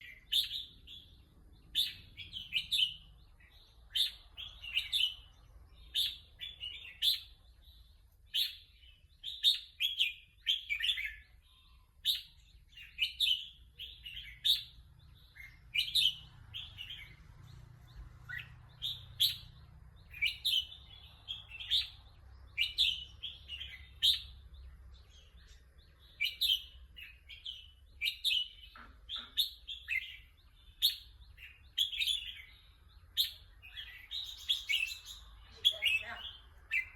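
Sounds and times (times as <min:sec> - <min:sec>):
bulbul singing: 0:00.0 - 0:36.9.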